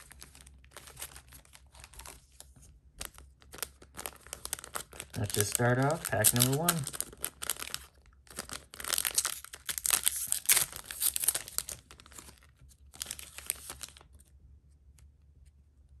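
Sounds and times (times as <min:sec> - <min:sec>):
foil pack tearing and crinkling: 0:00.0 - 0:02.3, 0:03.0 - 0:14.1.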